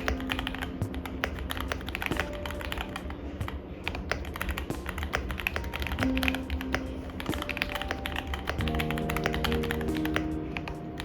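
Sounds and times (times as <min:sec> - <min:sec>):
mechanical keyboard key clacks: 0:00.0 - 0:03.2, 0:03.9 - 0:10.8.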